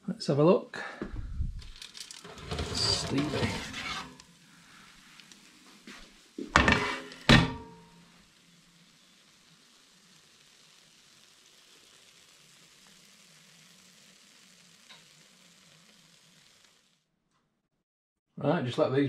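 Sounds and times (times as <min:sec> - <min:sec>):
faint sizzling hiss: 0:00.0 - 0:17.1.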